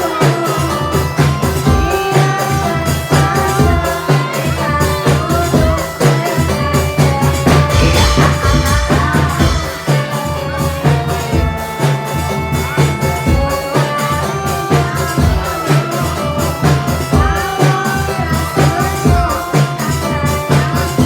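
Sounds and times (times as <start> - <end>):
drums keeping steady beat: 0.0 - 21.0
sharp high percussion strokes: 0.0 - 21.0.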